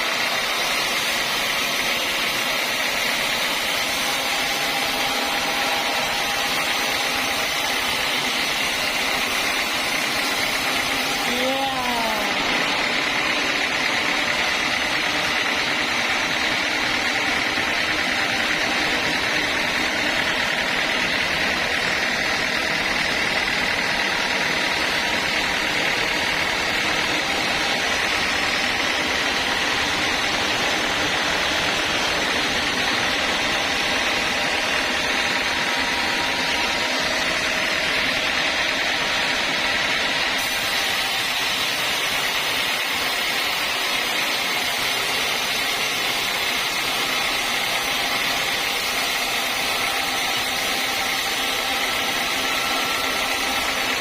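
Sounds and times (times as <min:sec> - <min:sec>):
sawmill drone with whine: 0:00.0 - 0:54.0.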